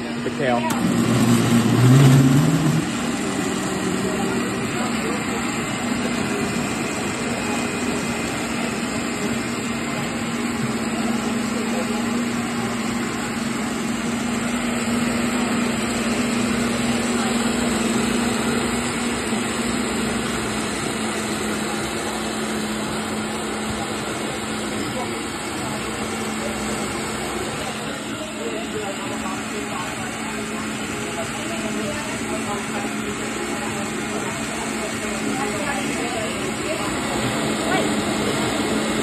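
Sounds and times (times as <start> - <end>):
blender motor running: 0.0 - 39.0.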